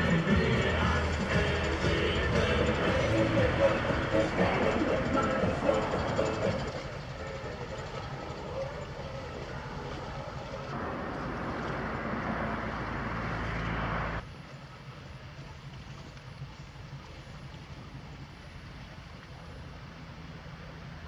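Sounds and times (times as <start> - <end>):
diesel ship engine drone: 0.0 - 21.0.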